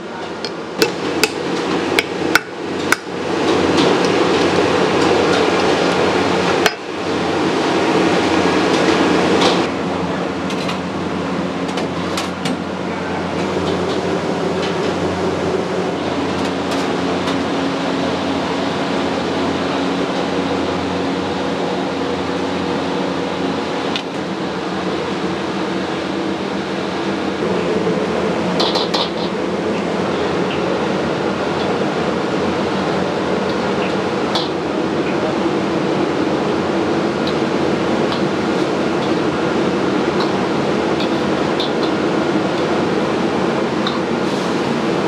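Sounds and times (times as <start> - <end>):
kitchen burners and fans roaring: 0.0 - 45.0.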